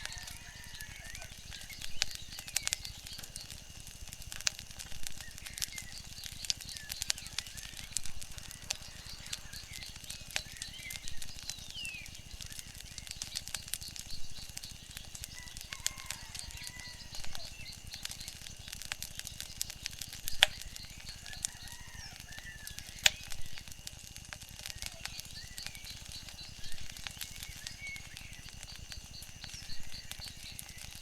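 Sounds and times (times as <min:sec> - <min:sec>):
faint bird chirps: 0:00.0 - 0:03.6, 0:04.8 - 0:23.8, 0:24.5 - 0:31.0
wood fire crackling: 0:00.0 - 0:31.0.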